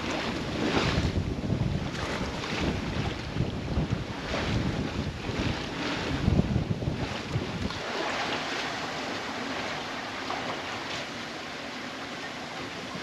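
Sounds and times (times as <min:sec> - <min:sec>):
waves washing around a hull: 0:00.0 - 0:13.0.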